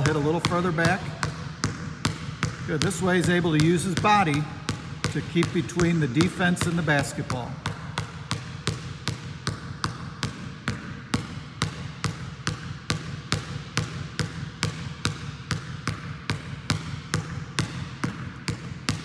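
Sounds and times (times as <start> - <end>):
basketball bouncing on tiled floor: 0.0 - 19.0.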